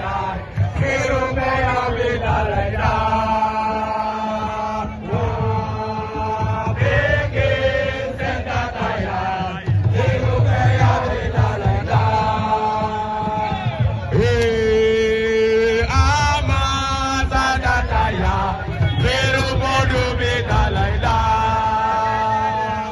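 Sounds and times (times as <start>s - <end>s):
music with low beat: 0.0s - 22.9s.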